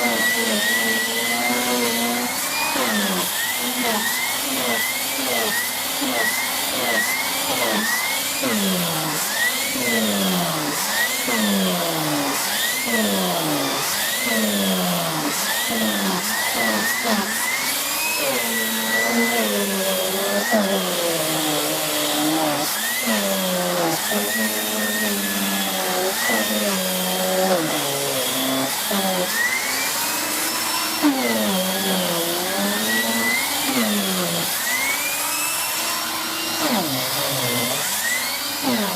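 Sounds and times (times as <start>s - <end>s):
vacuum cleaner motor humming: 0.0s - 38.9s.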